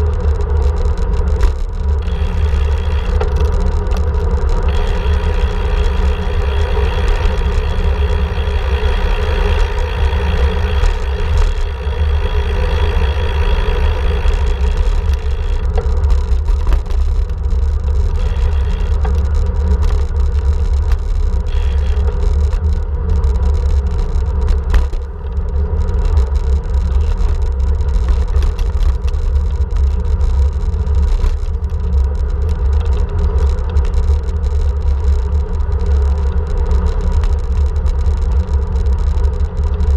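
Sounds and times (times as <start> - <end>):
vehicle rumbling along road: 0.0 - 39.9.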